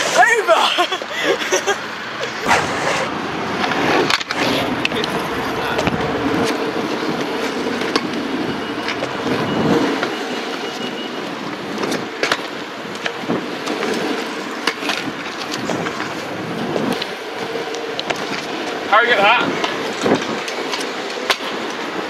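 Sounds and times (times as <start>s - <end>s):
skateboard wheels rolling on pavement: 0.0s - 22.0s.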